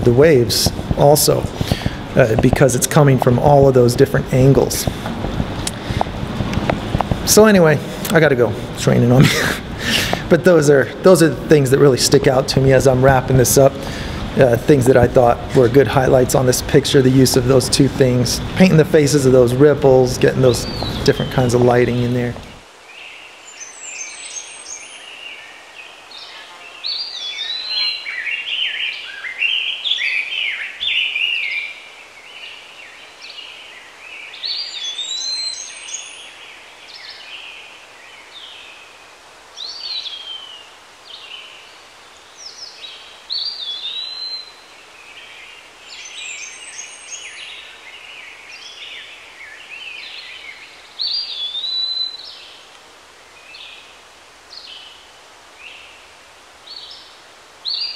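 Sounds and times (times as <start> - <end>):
outdoor background noise: 0.0 - 57.9
songbirds singing: 0.0 - 57.9.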